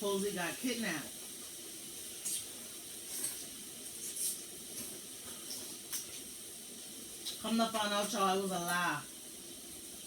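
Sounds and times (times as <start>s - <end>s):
broth simmering with hiss: 0.0s - 10.0s.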